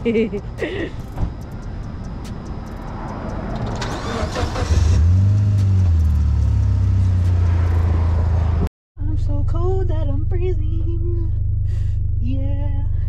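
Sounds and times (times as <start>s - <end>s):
car engine cranking and idling: 0.4s - 13.0s.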